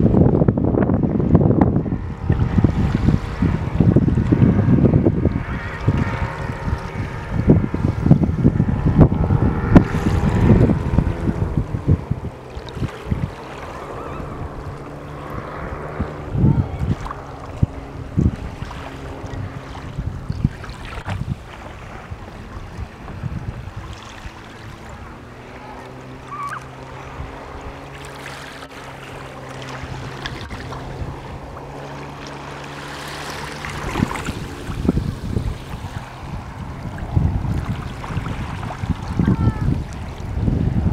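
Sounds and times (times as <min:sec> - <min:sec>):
faint wash of sea water: 0:00.0 - 0:40.9
low engine drone: 0:00.0 - 0:40.9
wind gusting against microphone: 0:00.0 - 0:40.9
small waves lapping on sand: 0:05.4 - 0:40.9.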